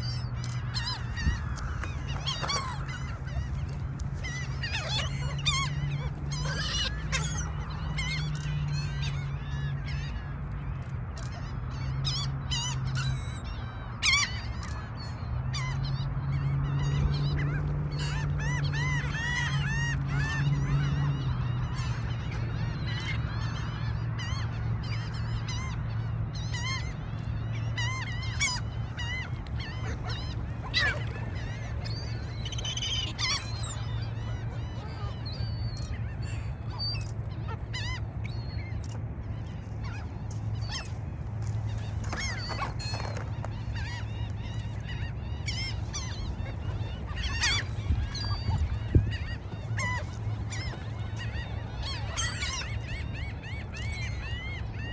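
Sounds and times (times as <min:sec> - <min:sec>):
gulls calling: 0:00.0 - 0:25.6, 0:26.3 - 0:54.9.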